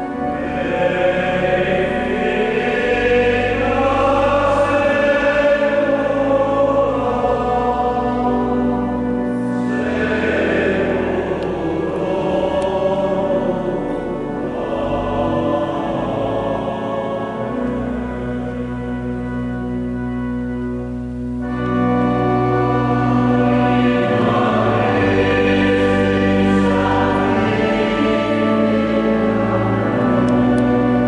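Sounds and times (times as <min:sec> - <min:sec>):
choir singing sacred music: 0:00.0 - 0:31.0
low accompaniment: 0:00.0 - 0:31.0.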